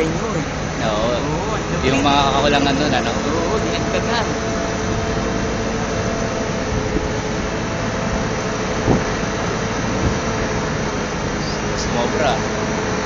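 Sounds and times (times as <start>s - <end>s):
crane engine running with whine: 0.0s - 13.0s.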